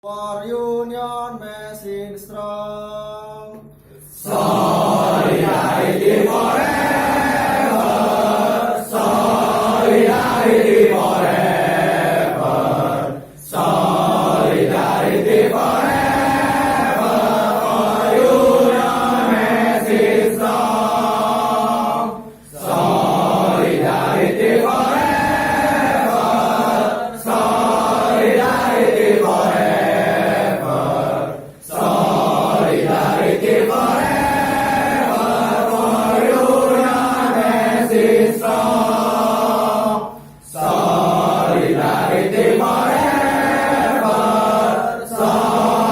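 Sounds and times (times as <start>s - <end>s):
group singing a march in unison: 0.0s - 45.9s.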